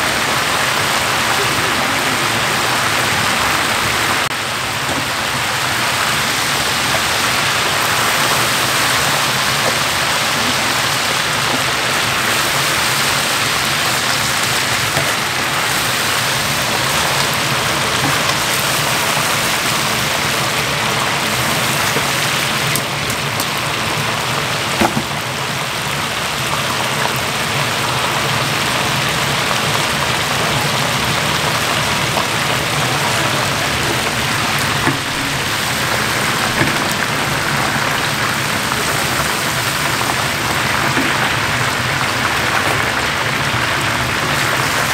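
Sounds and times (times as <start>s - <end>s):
crabs sizzling in hot oil: 0.0s - 44.9s.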